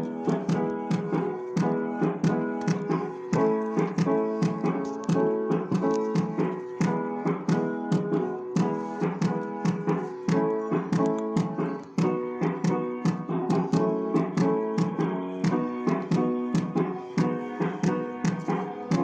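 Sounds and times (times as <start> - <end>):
piano-like keyboard chords: 0.0 - 19.0.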